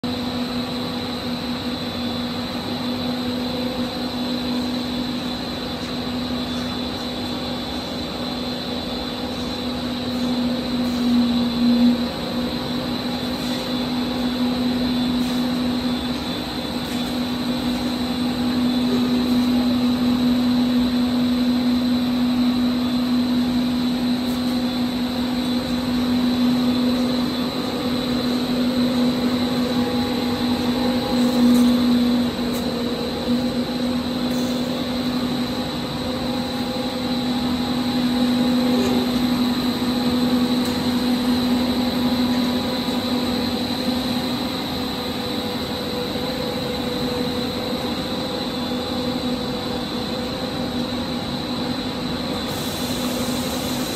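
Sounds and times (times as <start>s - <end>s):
machinery drone: 0.0s - 53.9s
thin high whine: 0.0s - 53.9s.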